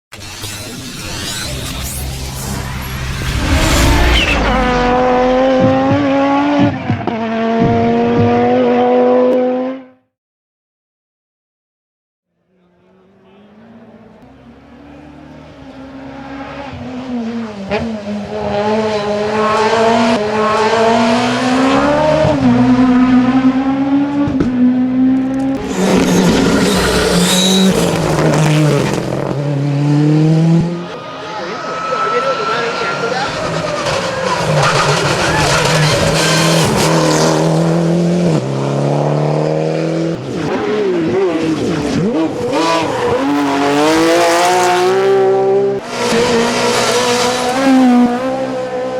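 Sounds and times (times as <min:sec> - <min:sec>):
rally car engine revving: 0:00.1 - 0:10.0, 0:12.5 - 0:48.9.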